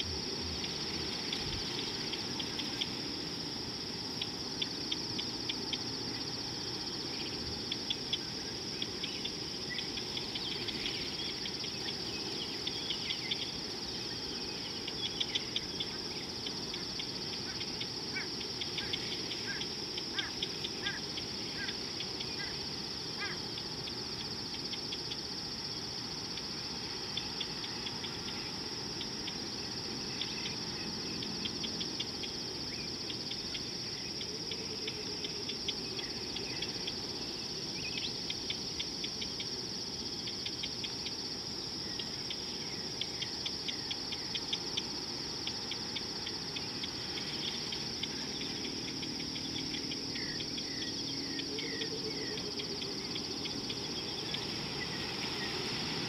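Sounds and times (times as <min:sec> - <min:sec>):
high-pitched insect chorus: 0:00.0 - 0:56.0
insect ticking calls: 0:00.0 - 0:56.0.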